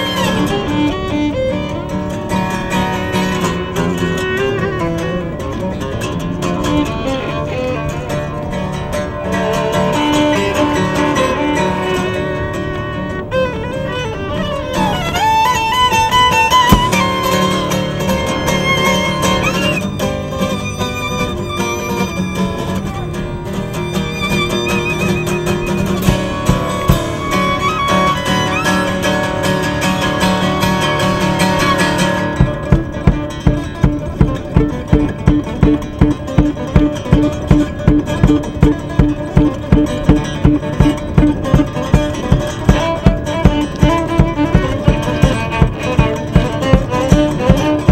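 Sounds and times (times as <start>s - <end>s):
fiddle melody: 0.0s - 47.9s
strummed acoustic guitar: 0.0s - 47.9s.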